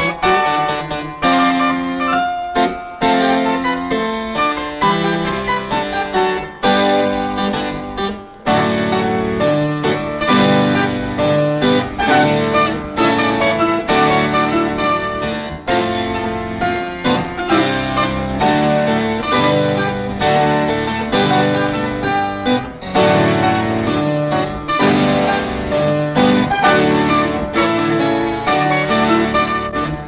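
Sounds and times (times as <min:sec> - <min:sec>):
harpsichord music: 0:00.0 - 0:30.0.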